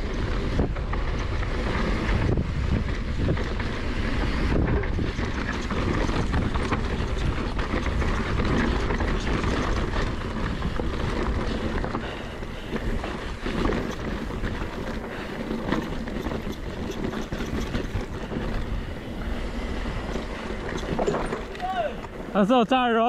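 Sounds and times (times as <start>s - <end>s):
bike frame rattling clicks: 0.0s - 19.2s, 19.8s - 22.2s
bike tyres rolling on dirt trail: 0.0s - 23.0s
wind buffeting microphone: 0.0s - 23.0s.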